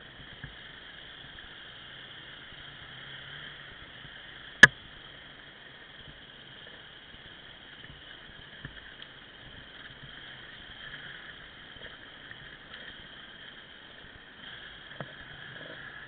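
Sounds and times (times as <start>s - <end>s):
dirt bike engines running: 0.0s - 16.0s.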